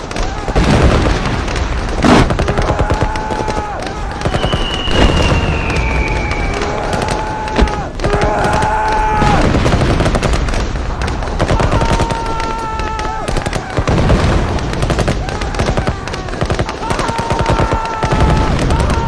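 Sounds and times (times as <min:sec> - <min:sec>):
machine-gun fire: 0:00.0 - 0:19.0
rifle shots: 0:00.0 - 0:19.0.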